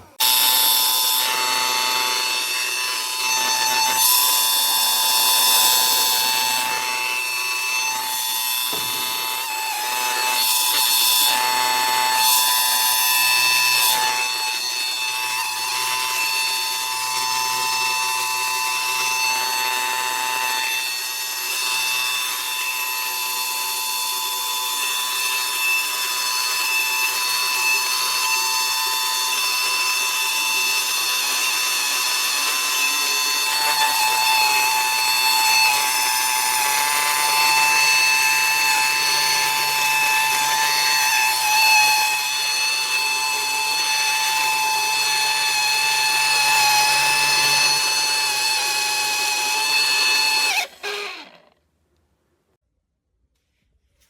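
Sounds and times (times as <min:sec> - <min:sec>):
handheld vacuum motor whining: 0:00.0 - 0:51.6.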